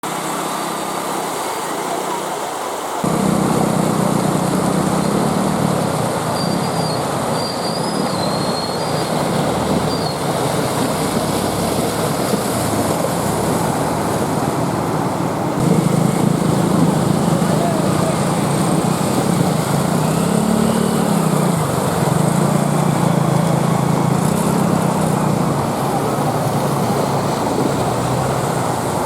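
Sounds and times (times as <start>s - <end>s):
motorcycles through flood water: 0.0s - 29.0s
street traffic noise: 0.0s - 29.0s.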